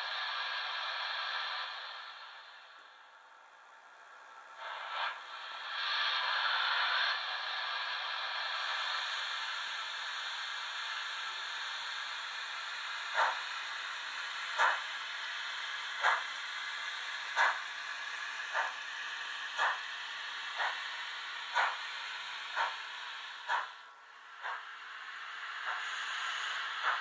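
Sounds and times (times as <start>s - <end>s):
model steam locomotive hissing: 0.0s - 27.0s.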